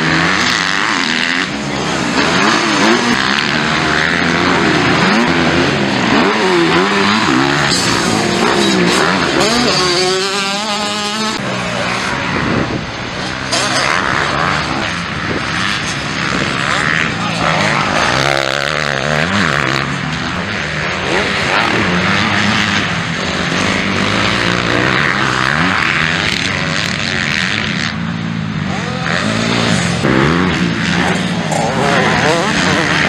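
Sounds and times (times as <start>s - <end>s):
motocross engines revving: 0.0s - 33.0s.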